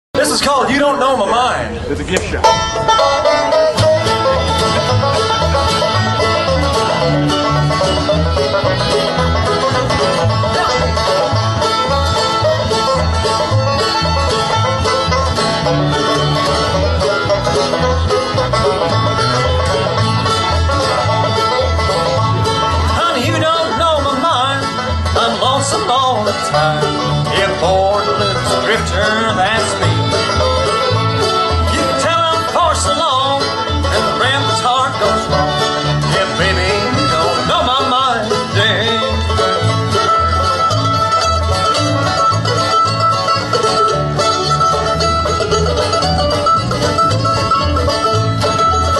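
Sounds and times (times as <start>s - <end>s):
acoustic guitar: 0.2s - 48.9s
banjo: 0.2s - 48.9s
fiddle: 0.2s - 48.9s
mandolin: 0.2s - 48.9s
upright bass plucking: 0.2s - 48.9s.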